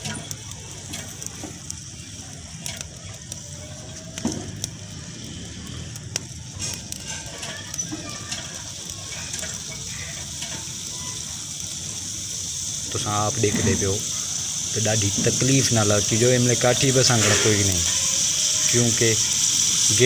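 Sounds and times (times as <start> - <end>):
crackles and pops: 0.0 - 20.0
potato slices frying in oil: 0.0 - 20.0.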